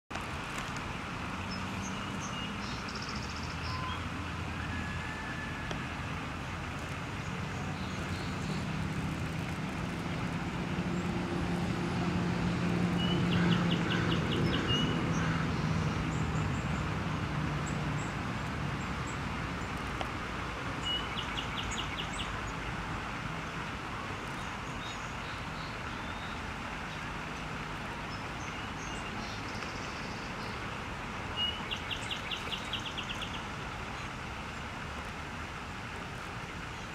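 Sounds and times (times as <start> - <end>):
passing motor traffic hum: 0.1 - 36.9.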